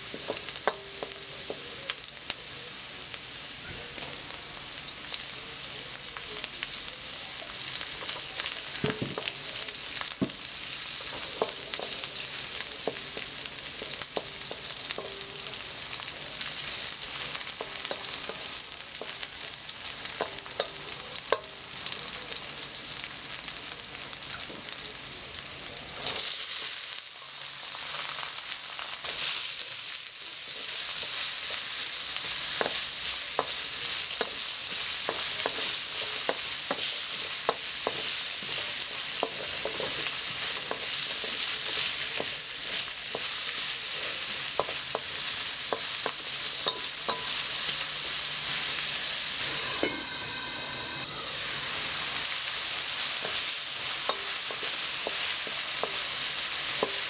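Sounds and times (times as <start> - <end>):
vegetables sizzling in hot oil: 0.0 - 57.0.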